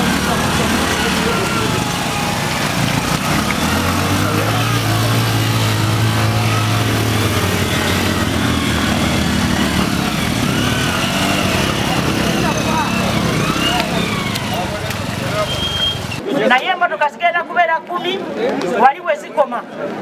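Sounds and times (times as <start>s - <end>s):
small motorcycle engine droning: 0.0s - 16.2s.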